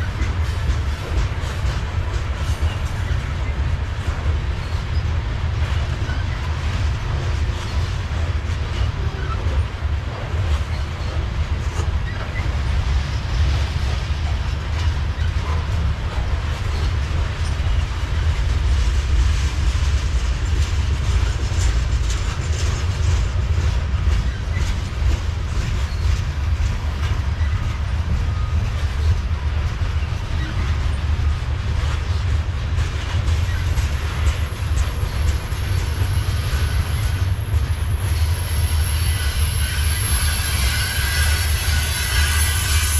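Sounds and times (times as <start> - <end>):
freight train rumbling past: 0.0 - 42.9
hiss of wheels on rail: 0.0 - 42.9.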